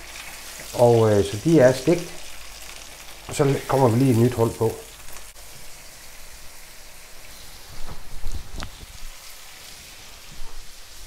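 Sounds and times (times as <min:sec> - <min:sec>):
meat crackling in hot fat: 0:00.0 - 0:11.0
oil sizzling in a frying pan: 0:00.0 - 0:11.0.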